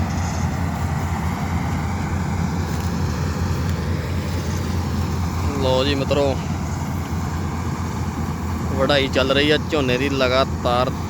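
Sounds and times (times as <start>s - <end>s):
combine harvester engine drone: 0.0s - 11.0s
machinery noise: 0.0s - 11.0s.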